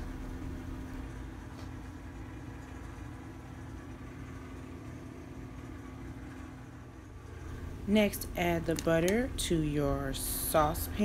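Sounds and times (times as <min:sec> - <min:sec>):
faint constant tone: 0:00.0 - 0:11.0
steady low hum: 0:00.0 - 0:11.0.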